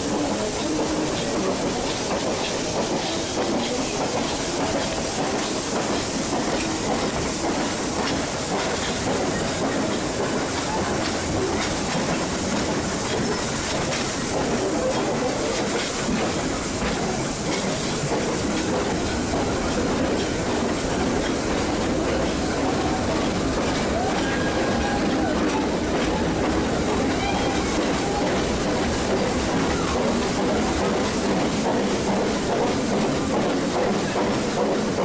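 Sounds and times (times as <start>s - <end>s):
train rumbling along track: 0.0s - 35.0s.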